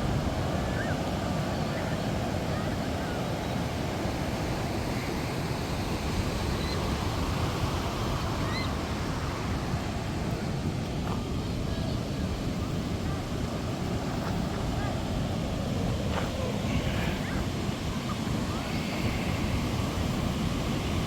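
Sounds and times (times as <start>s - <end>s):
ocean surf: 0.0s - 21.0s
wind on microphone: 0.0s - 21.0s.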